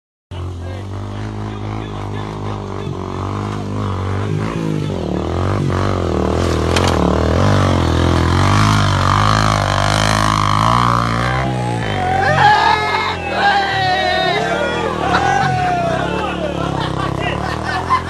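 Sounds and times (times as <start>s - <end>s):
motorcycle engine revving: 0.3s - 18.0s.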